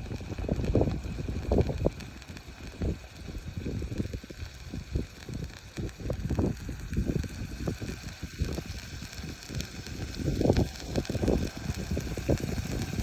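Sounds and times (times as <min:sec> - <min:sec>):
charcoal crackling: 0:00.0 - 0:13.0
wind buffeting microphone: 0:00.0 - 0:13.0.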